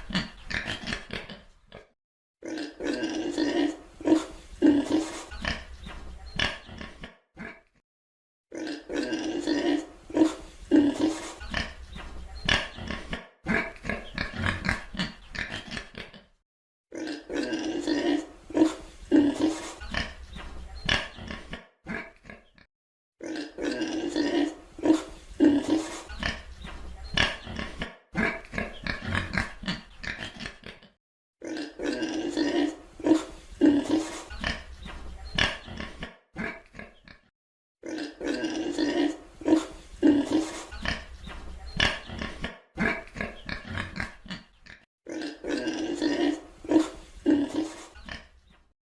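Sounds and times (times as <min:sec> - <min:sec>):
pig grunting and oinking: 0:00.0 - 0:07.8, 0:08.5 - 0:48.6.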